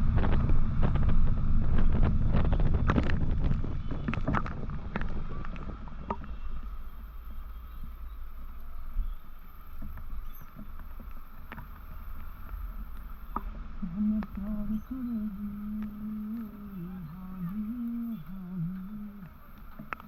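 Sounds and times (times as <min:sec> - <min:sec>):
motorcycle engine: 0:00.0 - 0:20.0
steady low drone: 0:00.0 - 0:20.0
wind rumble: 0:00.0 - 0:20.0.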